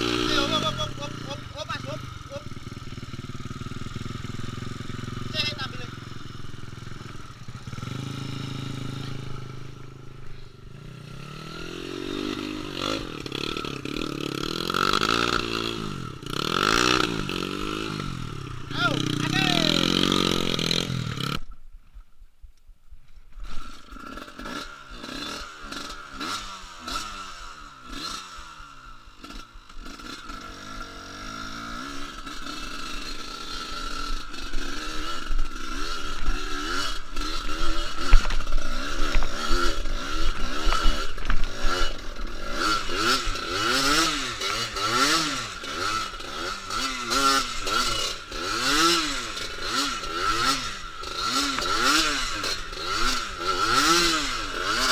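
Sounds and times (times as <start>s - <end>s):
motorcycle engine revving: 0.0s - 21.5s, 23.4s - 54.9s.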